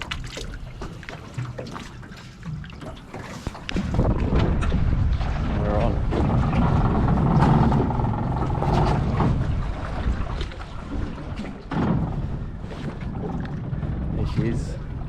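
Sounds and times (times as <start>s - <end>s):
hull knocking on water: 0.0s - 15.0s
outboard motor running: 0.0s - 15.0s.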